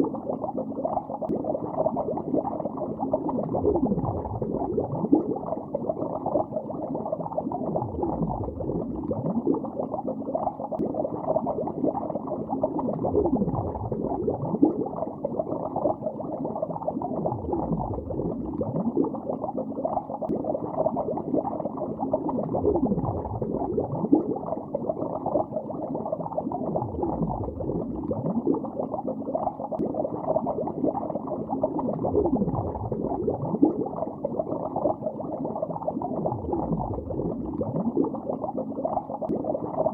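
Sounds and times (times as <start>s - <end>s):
underwater bubbling: 0.0s - 39.9s.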